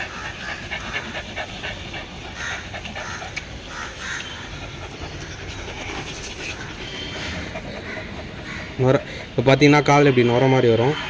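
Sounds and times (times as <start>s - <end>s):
puppy panting: 0.0s - 10.1s.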